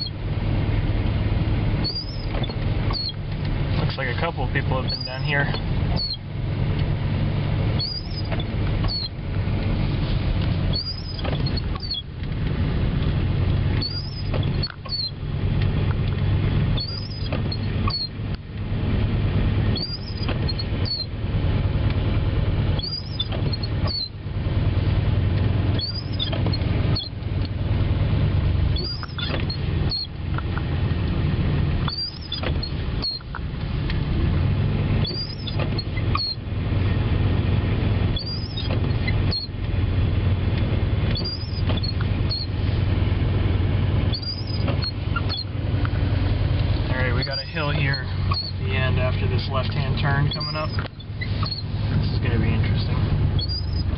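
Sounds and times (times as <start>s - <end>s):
windshield wipers squeaking: 0.0s - 0.2s, 1.0s - 53.9s
truck engine drone: 0.0s - 53.9s
tyres on snowy road: 0.0s - 53.9s.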